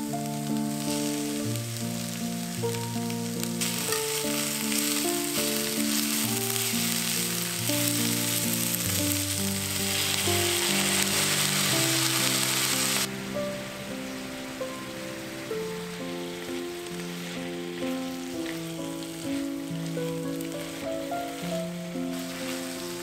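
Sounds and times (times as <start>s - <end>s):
background music: 0.0s - 23.0s
vegetables sizzling in a pan: 0.0s - 23.0s.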